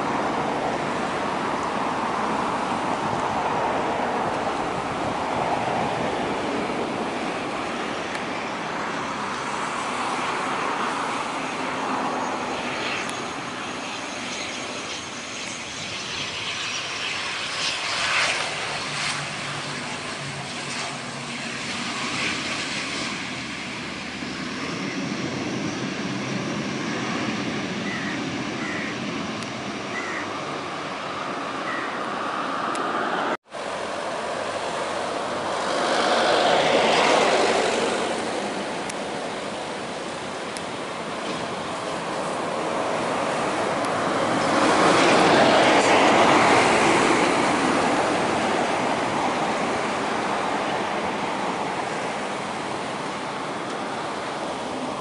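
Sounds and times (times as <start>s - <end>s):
jet engines running: 0.0s - 55.0s
turboprop airliner engines: 0.0s - 55.0s.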